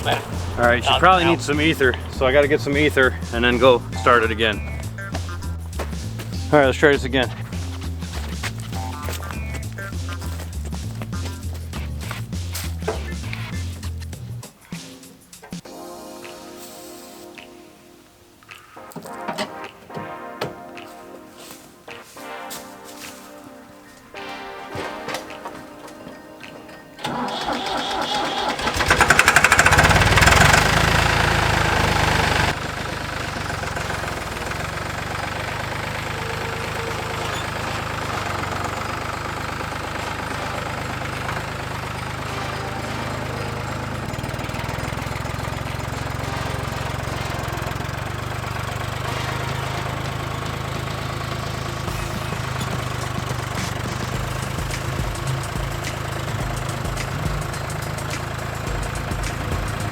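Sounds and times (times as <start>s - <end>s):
tractor engine idling: 0.0s - 15.8s, 24.0s - 59.9s
tractor engine starting: 0.0s - 15.9s, 24.1s - 59.9s.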